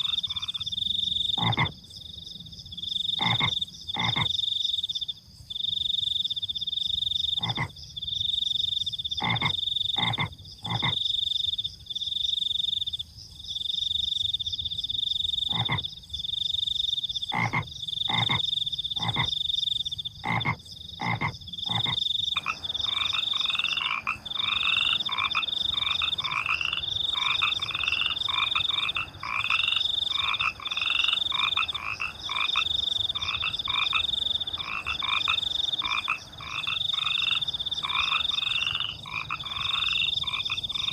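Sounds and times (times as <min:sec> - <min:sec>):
deep frog croaks: 0:00.0 - 0:02.2, 0:02.8 - 0:05.1, 0:05.7 - 0:11.6, 0:13.6 - 0:40.9
fast frog chorus: 0:00.0 - 0:02.2, 0:02.8 - 0:05.1, 0:05.7 - 0:11.6, 0:14.3 - 0:40.9
crickets trilling: 0:00.0 - 0:40.9.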